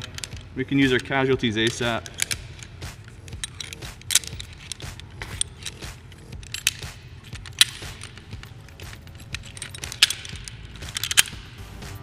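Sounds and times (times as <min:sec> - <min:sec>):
metal climbing hardware clinking: 0:00.0 - 0:12.0.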